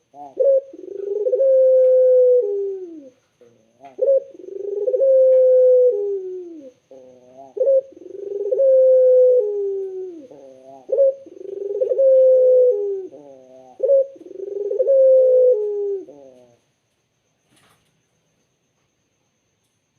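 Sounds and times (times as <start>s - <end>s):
dove cooing: 0.0s - 16.6s.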